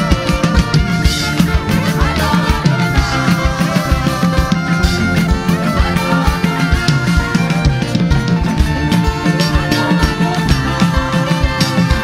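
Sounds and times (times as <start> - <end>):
drum kit beat: 0.0 - 12.0
keyboard: 0.0 - 12.0
live band playing upbeat music: 0.0 - 12.0.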